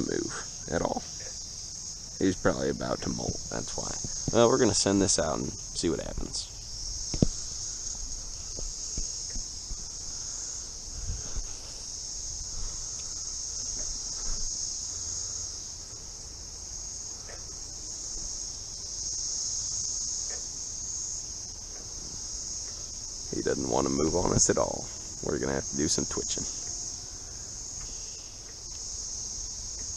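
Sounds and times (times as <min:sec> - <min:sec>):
cicadas droning: 0:00.0 - 0:29.9.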